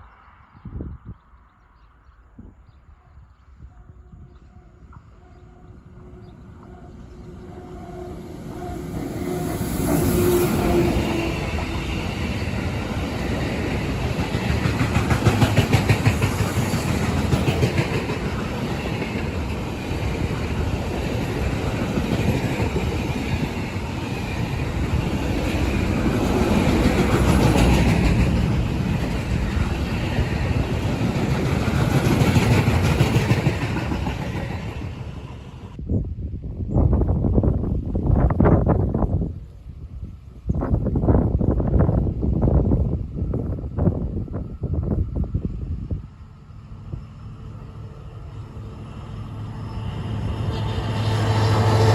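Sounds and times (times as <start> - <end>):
train passing: 4.5 - 36.0, 37.0 - 51.9.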